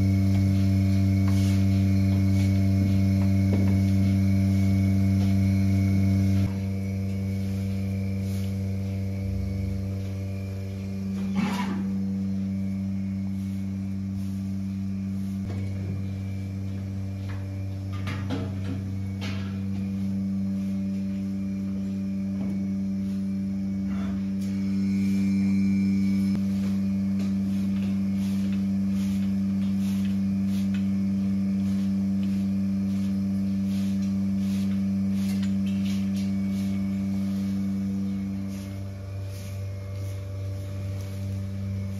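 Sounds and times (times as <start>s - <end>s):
broom scraping straw floor: 0.0s - 18.6s, 19.2s - 41.9s
low electrical machinery hum: 0.0s - 41.9s.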